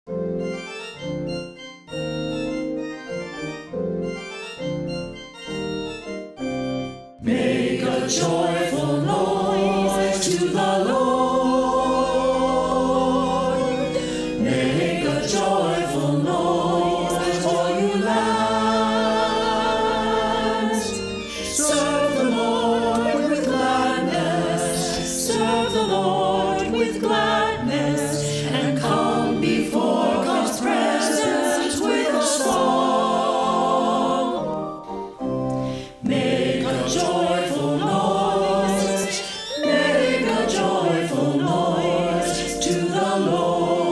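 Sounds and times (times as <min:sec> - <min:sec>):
keyboard notes: 0:00.1 - 0:43.9
choir singing in parts: 0:07.2 - 0:43.9.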